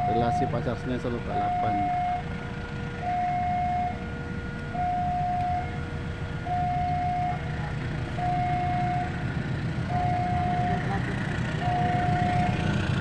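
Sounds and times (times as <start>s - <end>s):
two-tone crossing warning alarm: 0.0s - 13.0s.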